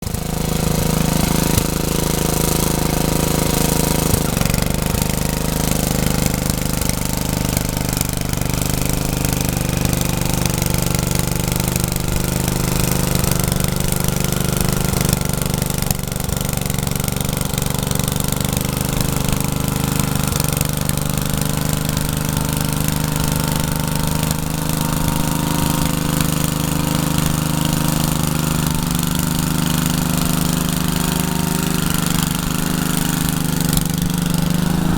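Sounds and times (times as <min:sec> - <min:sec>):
tiller engine running: 0:00.0 - 0:34.9.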